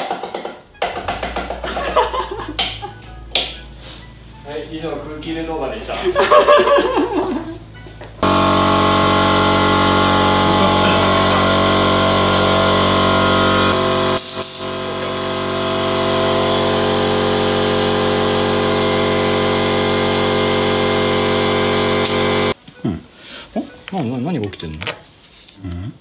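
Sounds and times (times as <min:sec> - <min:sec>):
air compressor humming: 0:00.7 - 0:07.5, 0:08.1 - 0:22.6.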